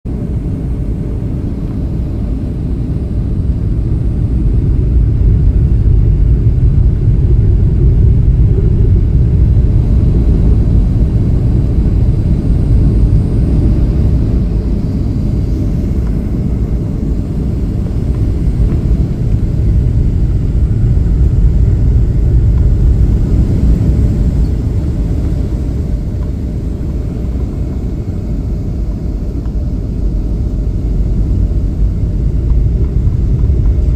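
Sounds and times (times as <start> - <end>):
airliner cabin rumble: 0.0 - 33.9.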